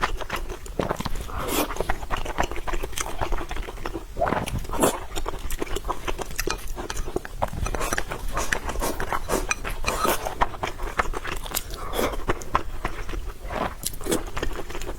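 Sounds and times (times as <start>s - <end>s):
wet chewing and biting: 0.0s - 14.9s.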